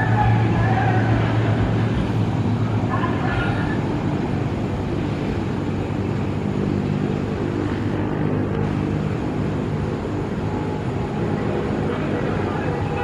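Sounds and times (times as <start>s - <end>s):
turboprop propeller drone: 0.0s - 13.0s.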